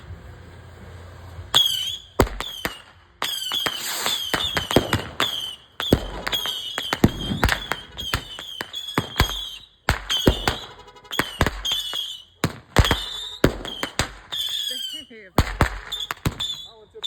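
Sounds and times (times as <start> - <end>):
missile whistle and crack: 1.5 - 16.8.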